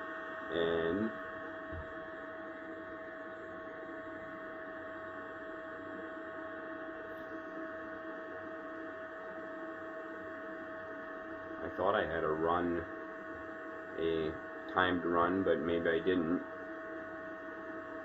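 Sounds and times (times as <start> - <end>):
electrical hum with whine: 0.0 - 18.0.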